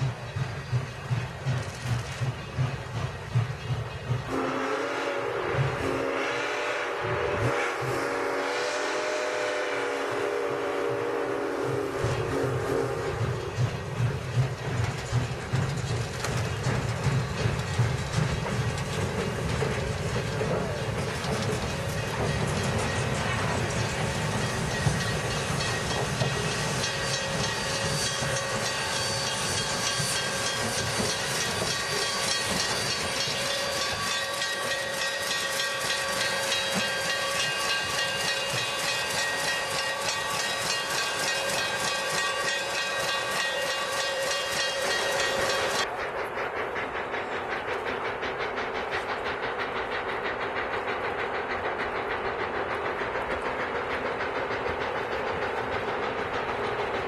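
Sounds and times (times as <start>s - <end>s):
steam venting hiss: 0.0s - 57.0s.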